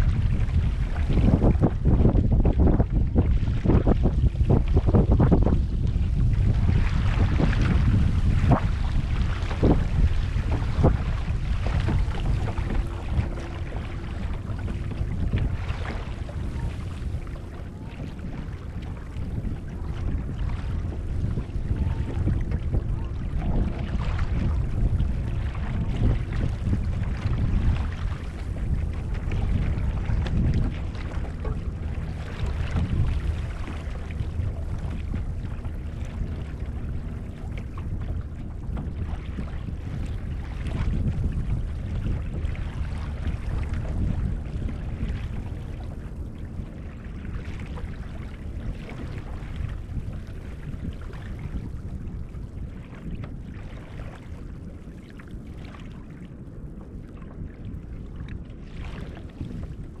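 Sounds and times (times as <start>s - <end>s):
water lapping against kayak hull: 0.0s - 60.0s
wind rumbling on microphone: 0.0s - 60.0s.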